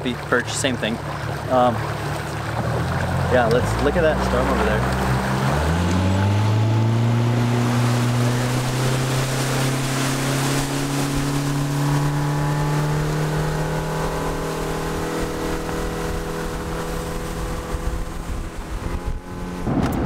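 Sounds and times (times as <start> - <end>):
outboard motor throttling up: 0.0 - 20.0
water and wind rushing past: 0.0 - 20.0.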